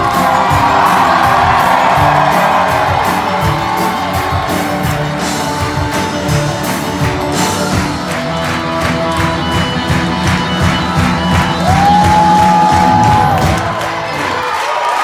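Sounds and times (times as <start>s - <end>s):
electric guitar: 0.0s - 14.3s
steady drum beat: 0.0s - 14.3s
live rock band playing: 0.0s - 14.4s.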